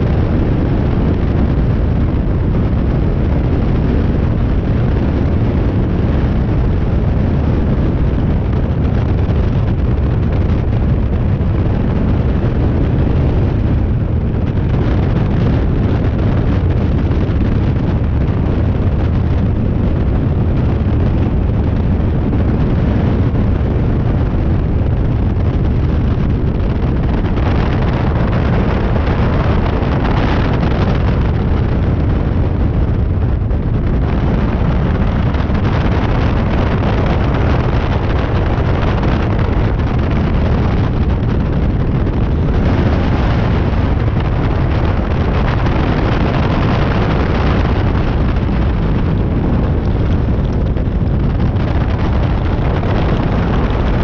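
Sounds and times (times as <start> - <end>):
wind rush buffeting microphone: 0.0 - 54.0.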